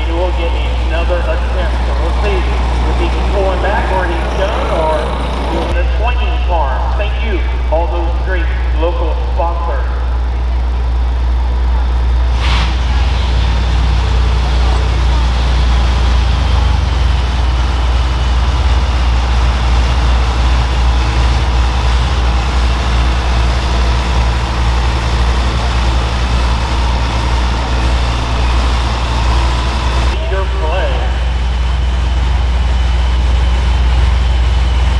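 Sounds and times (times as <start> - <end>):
turbocharged engine running: 0.0 - 34.9.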